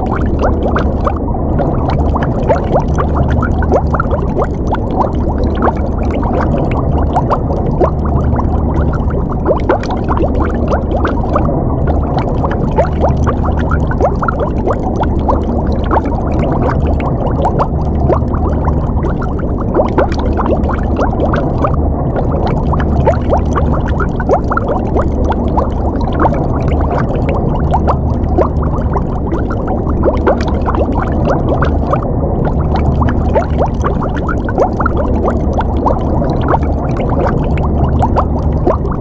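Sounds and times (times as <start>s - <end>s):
low underwater rumble: 0.0s - 39.0s
underwater bubbling and gurgling: 0.0s - 39.0s.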